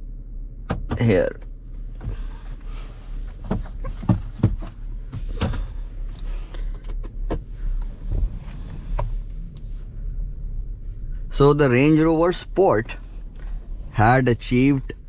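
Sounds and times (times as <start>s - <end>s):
idling car hum: 0.0s - 15.0s.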